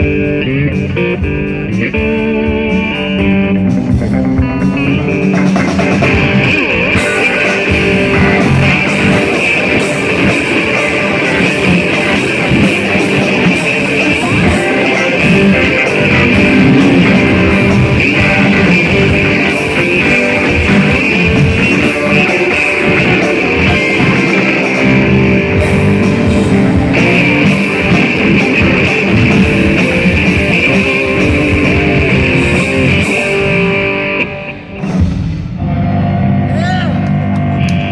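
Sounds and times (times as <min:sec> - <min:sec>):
electric guitar: 0:00.0 - 0:37.9
live rock band playing: 0:00.0 - 0:37.9.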